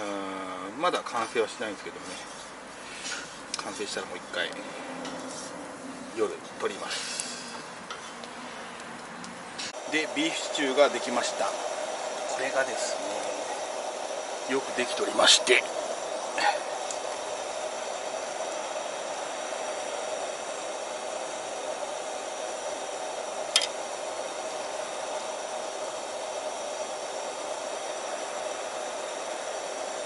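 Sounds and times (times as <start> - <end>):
steady hissing: 0.0 - 30.0.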